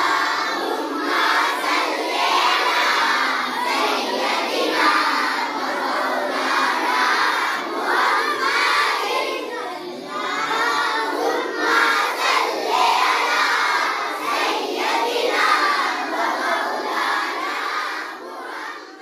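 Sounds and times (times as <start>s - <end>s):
children singing together: 0.0s - 19.0s.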